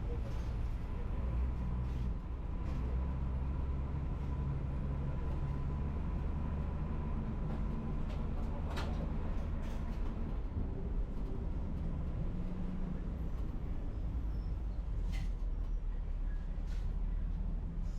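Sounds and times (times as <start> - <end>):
bus engine running: 0.0 - 17.9.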